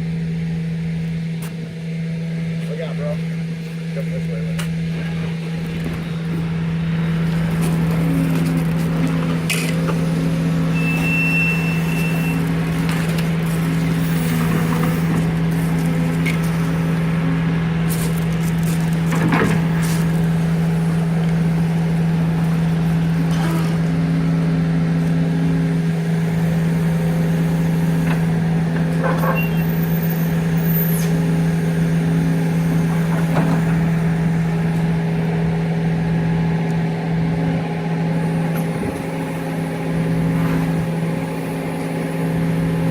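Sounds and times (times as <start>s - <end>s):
truck engine humming: 0.0s - 42.9s.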